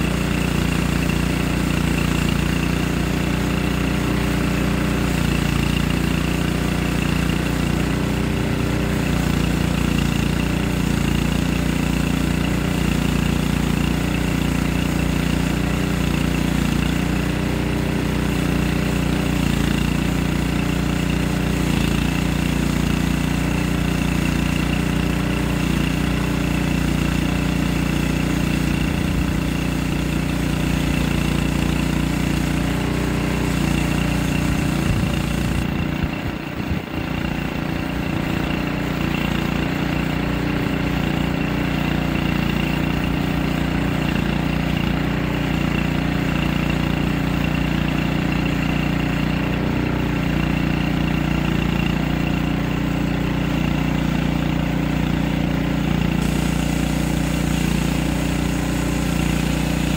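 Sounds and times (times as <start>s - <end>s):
band saw blade cutting log: 0.0s - 59.9s
small gasoline engine running: 0.0s - 59.9s.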